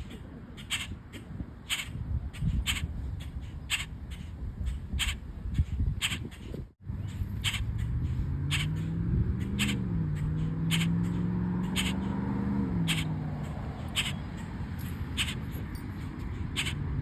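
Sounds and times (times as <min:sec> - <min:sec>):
bird harsh calls: 0:00.0 - 0:17.0.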